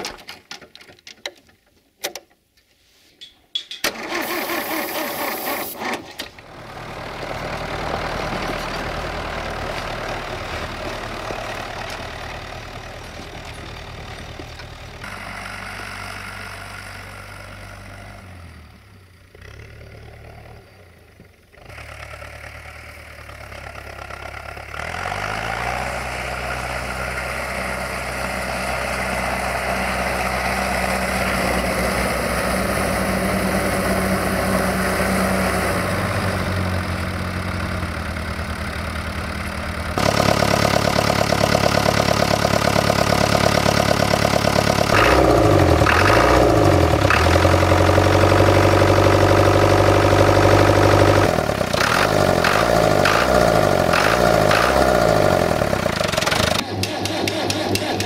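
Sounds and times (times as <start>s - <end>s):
tractor engine pulling under load: 3.6s - 58.0s
diesel engine running with clattering: 5.9s - 58.0s.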